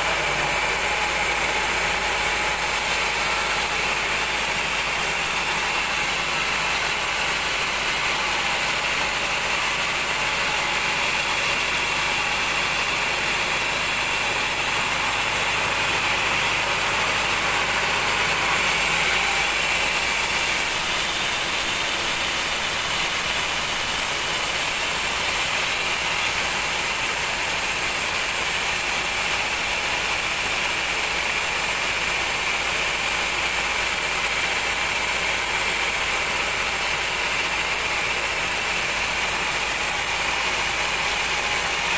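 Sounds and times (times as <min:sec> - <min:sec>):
band saw cutting through log: 0:00.0 - 0:41.9.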